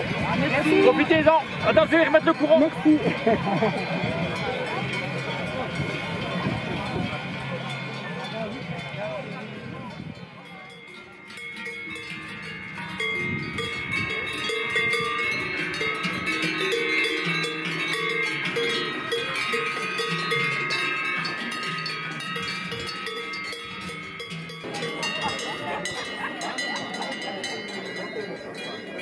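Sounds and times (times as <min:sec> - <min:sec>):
cowbells clanking: 0:00.0 - 0:29.0.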